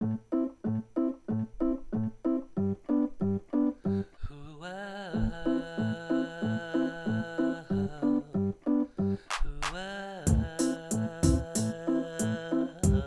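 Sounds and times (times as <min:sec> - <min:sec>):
oom-pah keyboard accompaniment: 0:00.0 - 0:04.0, 0:05.5 - 0:09.2, 0:10.3 - 0:13.0.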